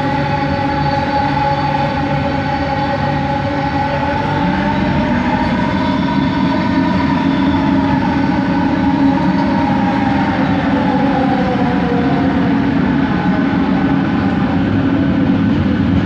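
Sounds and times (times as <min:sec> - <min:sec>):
train motors whining: 0:00.0 - 0:16.0
train running rumble: 0:00.0 - 0:16.0.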